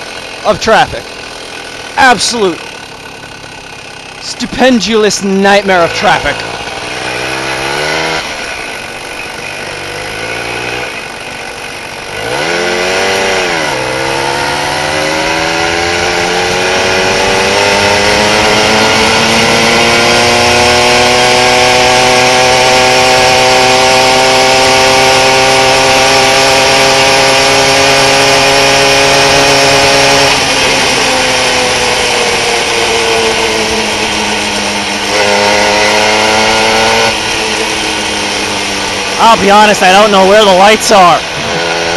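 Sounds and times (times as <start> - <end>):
moped engine revving loudly: 0.0 - 41.9.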